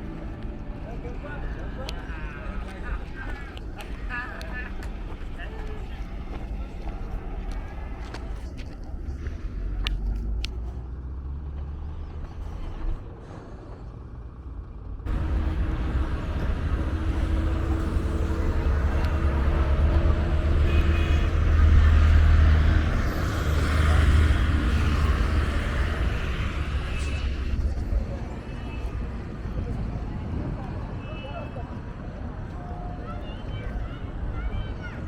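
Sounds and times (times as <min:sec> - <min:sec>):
passing vehicle engines: 0:00.0 - 0:35.0
traffic rumble: 0:00.0 - 0:35.0.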